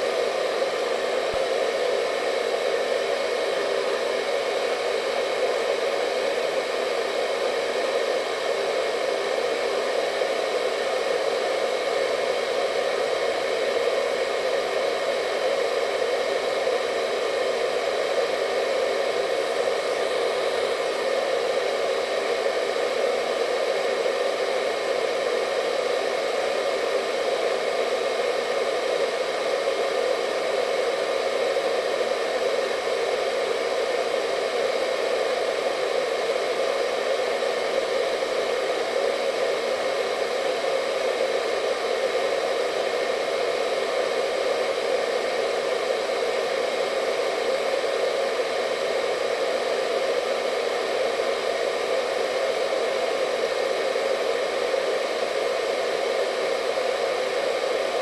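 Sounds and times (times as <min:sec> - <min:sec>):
faint motor whine: 0:00.0 - 0:58.0
hair dryer running: 0:00.0 - 0:58.0.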